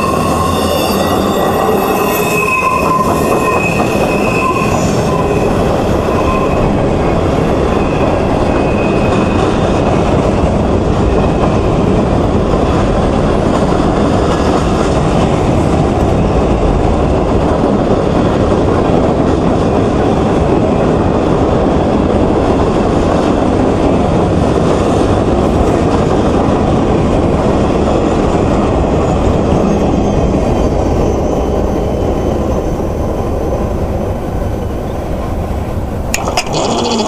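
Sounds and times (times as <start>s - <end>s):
freight train cars rumbling past: 0.0s - 37.0s.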